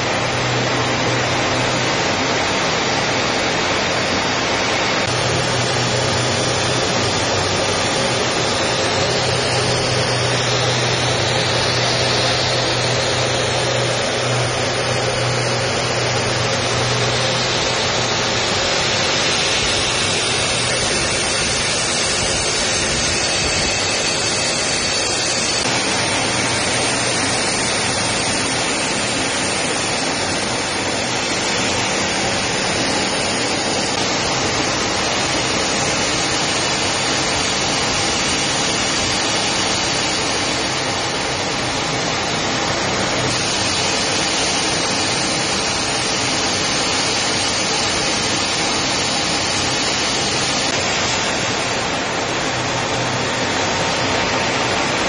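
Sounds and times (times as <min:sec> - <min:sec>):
jet aircraft roar in flight: 0:00.0 - 0:55.0.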